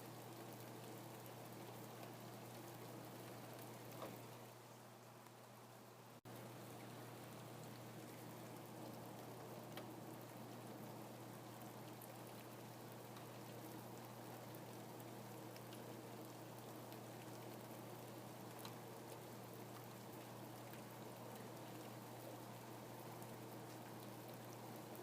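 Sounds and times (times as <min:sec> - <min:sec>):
faint steady rain: 0:00.0 - 0:25.0
low steady hum: 0:00.0 - 0:25.0.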